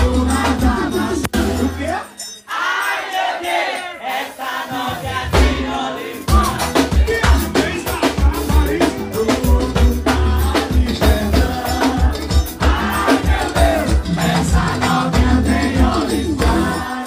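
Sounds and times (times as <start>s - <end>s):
bass beat: 0.0s - 1.9s, 5.2s - 17.0s
drums: 0.0s - 1.9s, 4.7s - 17.0s
person singing: 0.0s - 2.1s, 4.8s - 17.0s
shaken percussion: 0.0s - 17.0s.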